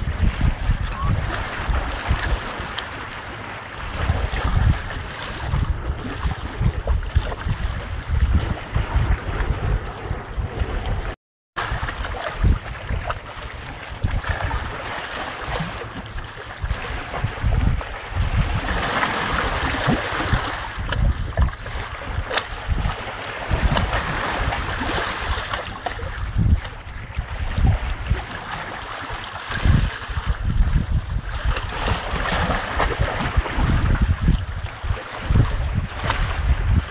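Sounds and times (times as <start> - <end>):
wind on microphone: 0.0 - 36.9.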